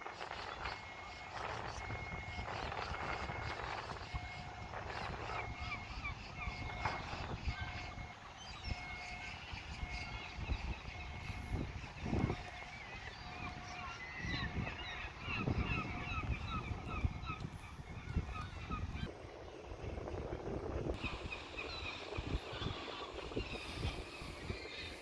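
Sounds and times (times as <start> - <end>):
seagulls calling: 0.0 - 25.0.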